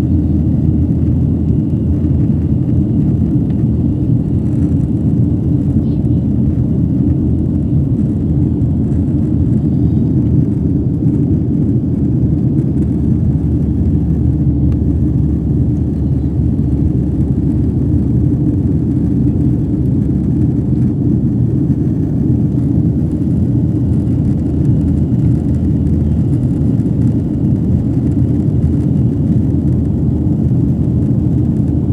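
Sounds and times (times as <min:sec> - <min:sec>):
airliner cabin rumble: 0:00.0 - 0:31.9.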